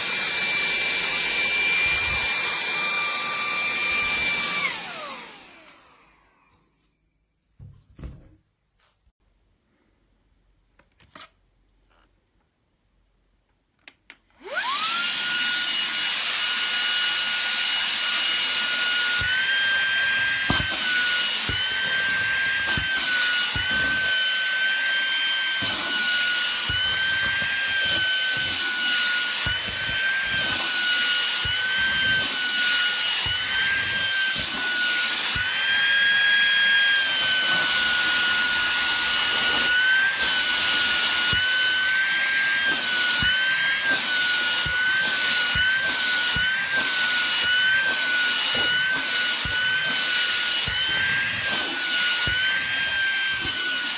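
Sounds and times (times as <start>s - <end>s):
handheld vacuum motor whine: 0.0s - 6.6s, 14.4s - 53.9s.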